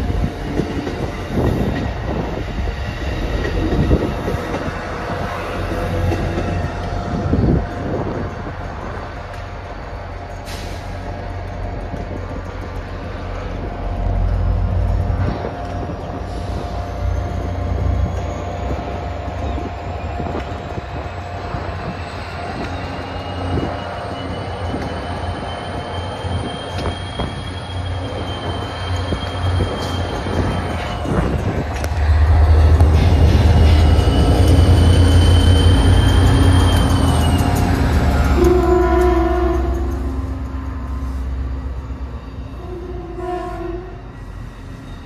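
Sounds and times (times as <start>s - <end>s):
diesel locomotive engine rumble: 0.0s - 45.0s
train wheel noise: 0.0s - 45.0s.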